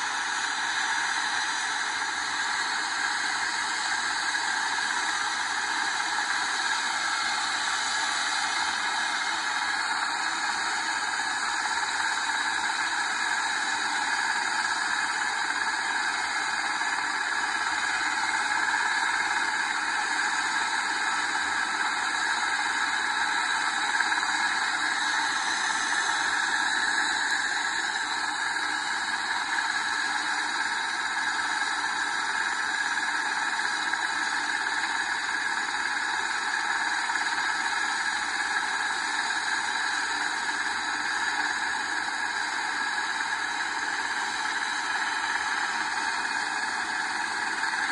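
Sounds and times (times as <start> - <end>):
helicopter turbine whine: 0.0 - 34.5, 41.4 - 47.9.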